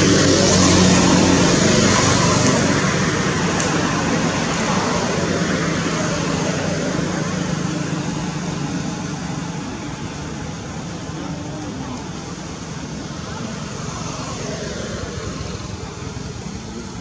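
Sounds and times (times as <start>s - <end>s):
vehicle noise rush: 0.0s - 17.0s.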